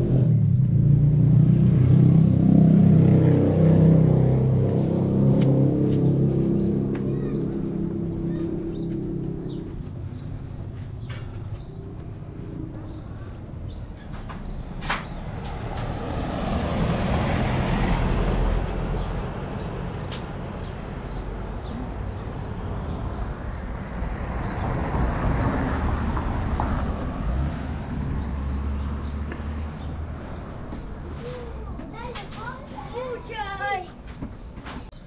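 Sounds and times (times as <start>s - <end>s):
low traffic rumble: 0.0s - 35.0s
vehicles passing: 0.0s - 35.0s.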